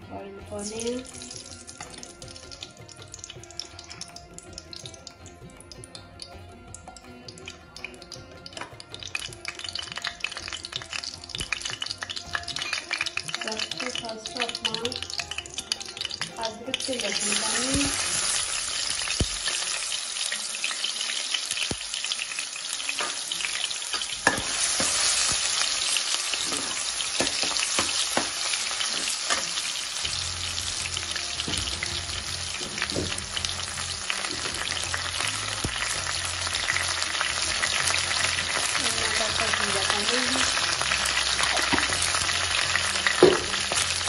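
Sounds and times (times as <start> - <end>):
garlic sizzling in hot oil: 0.2 - 44.0
crackles and pops of frying: 0.5 - 44.0.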